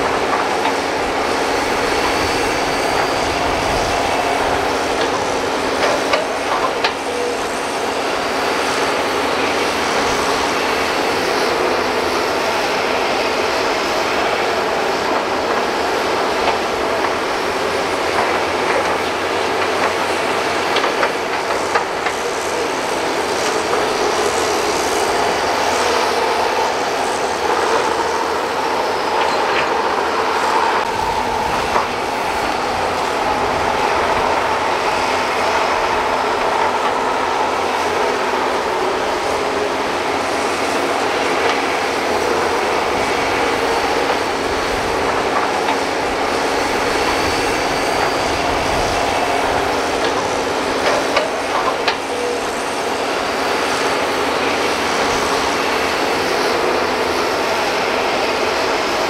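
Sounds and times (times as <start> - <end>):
excavator engine drone: 0.0 - 59.0.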